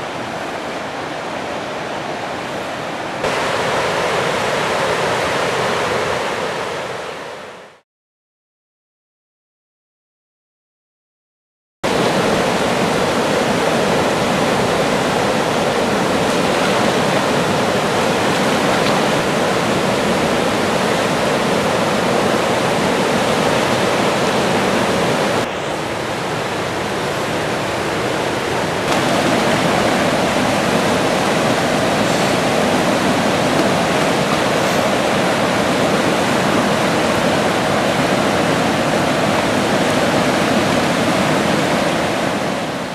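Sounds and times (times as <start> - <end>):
river rapids rushing over rocks: 0.0 - 7.4, 11.9 - 42.9.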